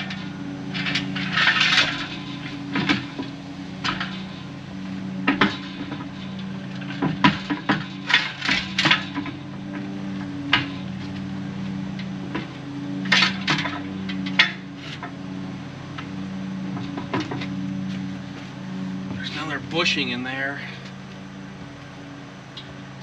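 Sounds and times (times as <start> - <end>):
metal clinks and knocks: 0.0 - 20.0
steady low hum: 0.0 - 23.0.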